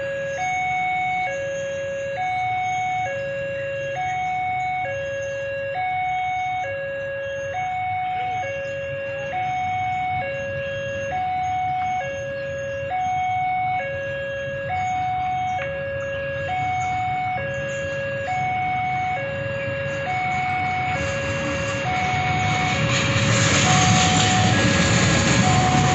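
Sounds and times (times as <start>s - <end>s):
diesel locomotive rumble: 0.0s - 25.9s
two-tone level crossing alarm: 0.0s - 25.9s.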